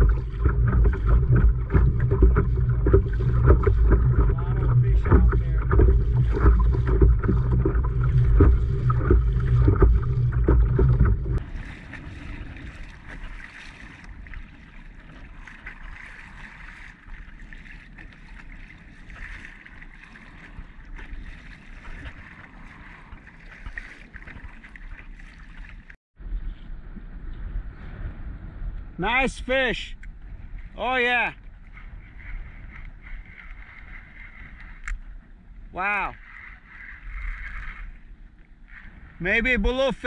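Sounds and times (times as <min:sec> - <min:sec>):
wind buffeting microphone: 0:00.0 - 0:24.7, 0:26.2 - 0:40.0
small waves slapping kayak: 0:00.0 - 0:40.0.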